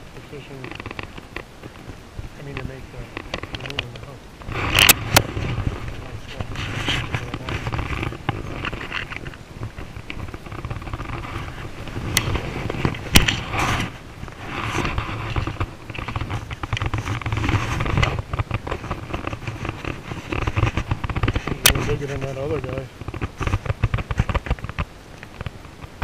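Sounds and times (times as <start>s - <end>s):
rustling handling noise: 0.0s - 26.0s.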